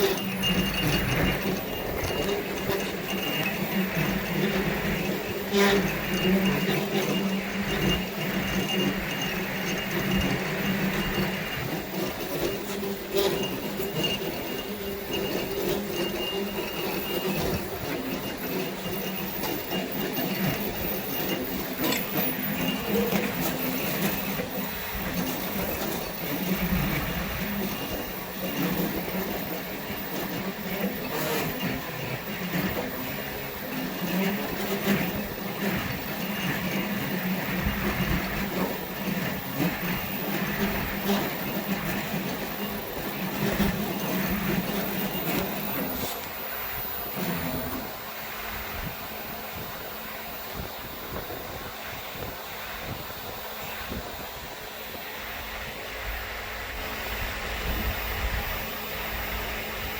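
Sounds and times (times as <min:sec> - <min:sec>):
milling machine humming and whining: 0:00.0 - 0:59.9.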